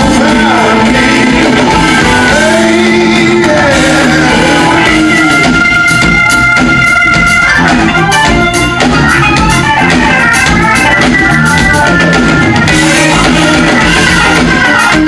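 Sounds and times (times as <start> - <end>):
bass: 0.0 - 15.0
drums: 0.0 - 15.0
electric guitar: 0.0 - 15.0
organ chords: 0.0 - 15.0.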